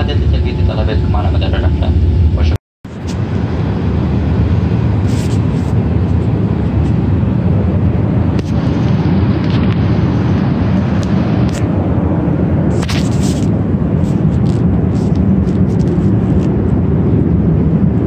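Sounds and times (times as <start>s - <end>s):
airplane cabin engine roar: 0.0s - 18.0s.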